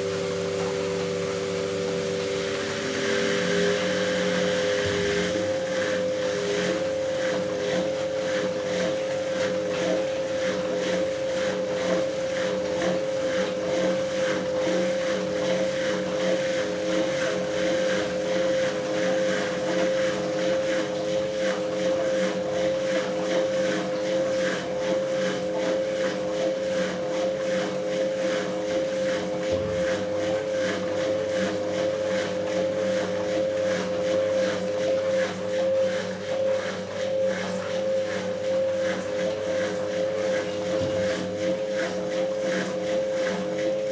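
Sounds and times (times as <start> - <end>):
washing machine motor whine: 0.0 - 43.9.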